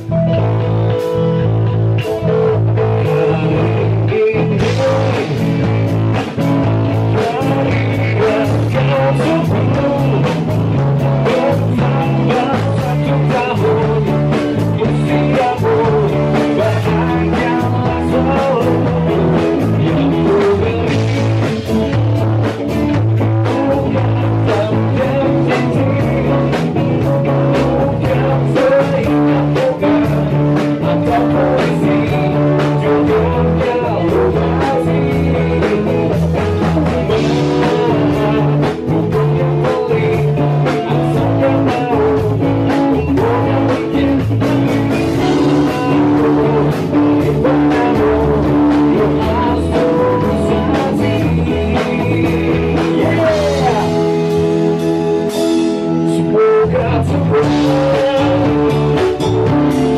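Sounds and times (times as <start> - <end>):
drum kit steady beat: 0.0 - 59.9
electric bass line: 0.0 - 59.9
guitar: 0.0 - 59.9
man singing: 2.0 - 59.9.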